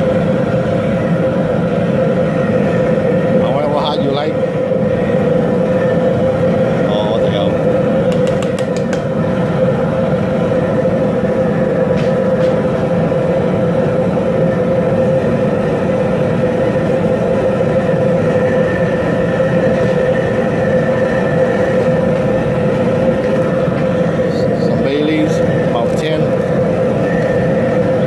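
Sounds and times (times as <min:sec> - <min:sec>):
gas burner roaring: 0:00.0 - 0:28.0
water boiling in a pot: 0:00.0 - 0:28.0.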